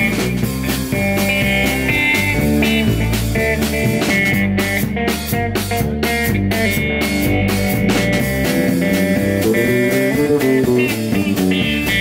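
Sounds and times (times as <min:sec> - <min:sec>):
drum kit: 0:00.0 - 0:12.0
electric bass: 0:00.0 - 0:12.0
electric guitar: 0:00.0 - 0:12.0.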